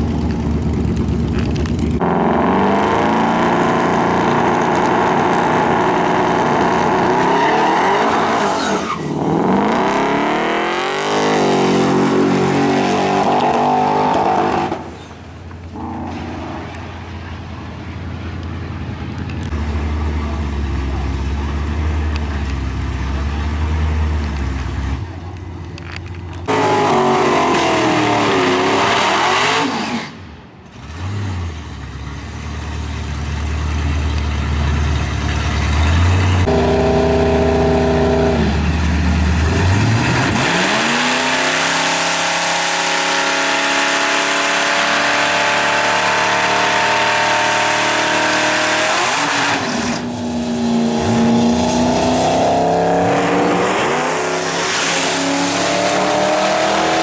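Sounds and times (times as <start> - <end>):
pickup engines revving: 0.0 - 32.0, 32.9 - 57.0.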